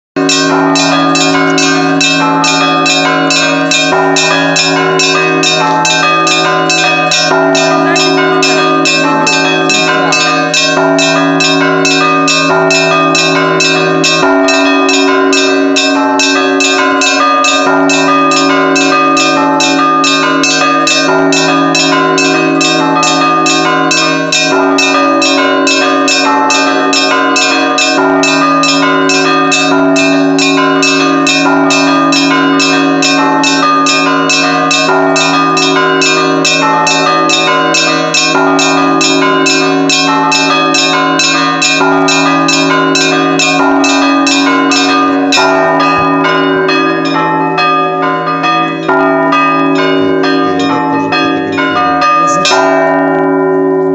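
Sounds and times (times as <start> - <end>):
church bells ringing fast: 0.2 - 53.9
low bell tones humming: 0.2 - 53.9.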